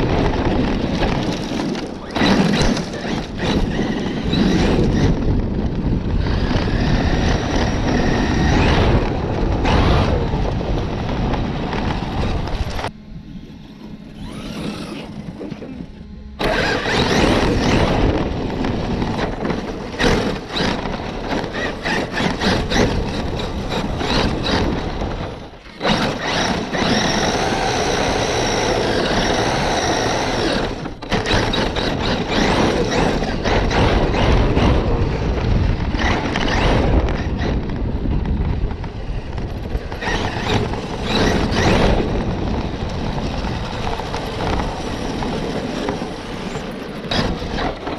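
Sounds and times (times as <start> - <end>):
radio-controlled car driving: 0.0 - 47.9
tyres and chassis rattling: 0.0 - 47.9.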